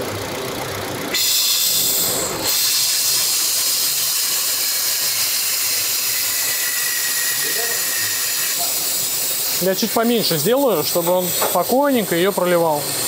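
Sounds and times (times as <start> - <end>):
compressed air hissing: 1.1 - 13.0.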